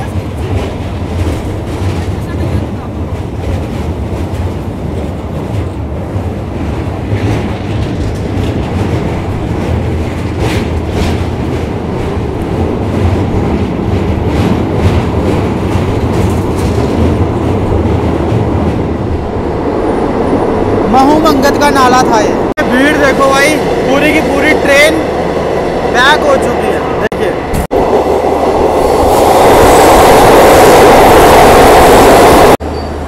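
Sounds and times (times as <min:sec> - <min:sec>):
rumble of train wheels on track: 0:00.0 - 0:33.0.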